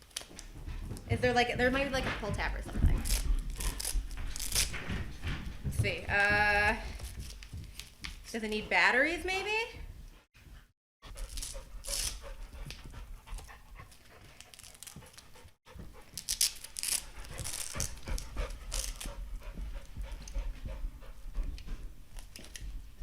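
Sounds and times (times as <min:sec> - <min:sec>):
dog panting: 0:00.2 - 0:06.2, 0:09.4 - 0:23.0.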